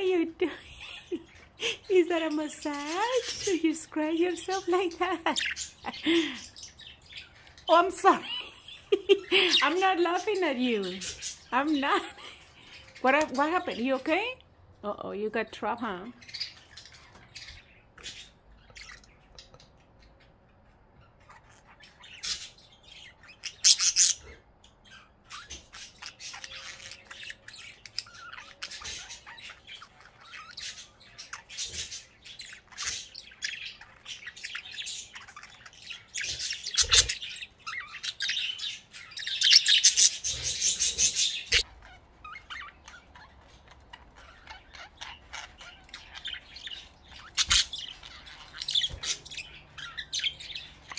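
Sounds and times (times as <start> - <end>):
budgerigars chirping: 0.5 - 14.4, 15.8 - 50.9.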